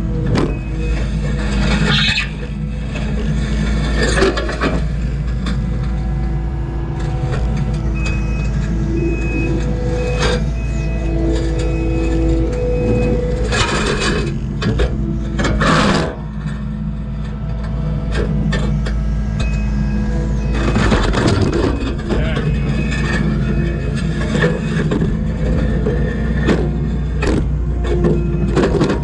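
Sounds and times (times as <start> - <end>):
diesel engine running: 0.0 - 29.0
reverse alarm beeping: 0.5 - 1.6, 5.7 - 26.4, 27.1 - 29.0.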